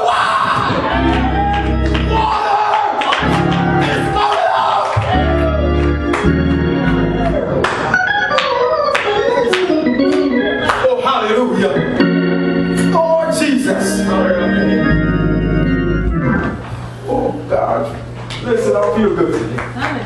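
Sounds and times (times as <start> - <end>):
organ music: 0.0 - 18.2.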